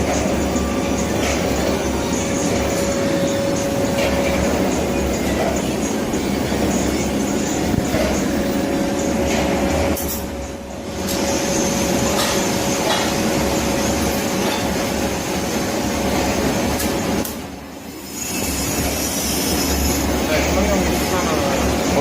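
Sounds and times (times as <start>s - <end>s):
constant hum: 0.0s - 17.8s.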